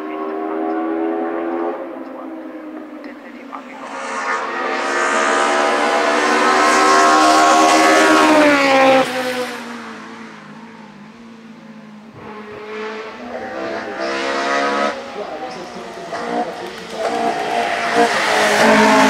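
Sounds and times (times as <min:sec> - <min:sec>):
loud revving engine: 0:00.0 - 0:19.0
race car passing at high revs: 0:00.0 - 0:19.0.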